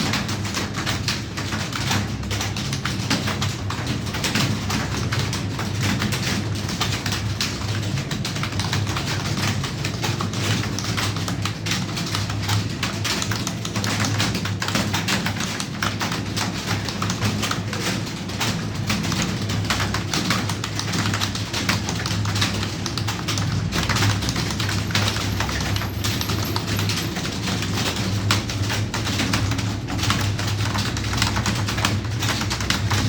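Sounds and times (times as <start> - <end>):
keyboard typing: 0.0 - 33.0.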